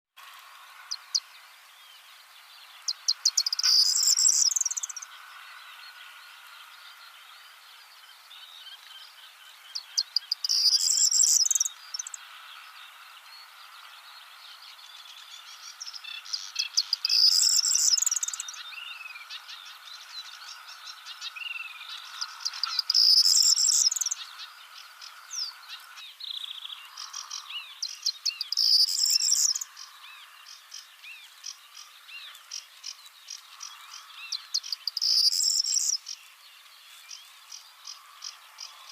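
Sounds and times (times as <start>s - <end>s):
insect drone: 0.2s - 36.6s, 37.2s - 38.9s
songbird singing: 0.2s - 38.9s.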